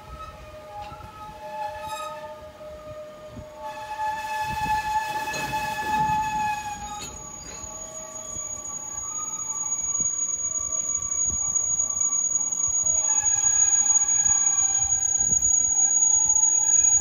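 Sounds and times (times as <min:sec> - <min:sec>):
train passing: 0:02.4 - 0:17.0.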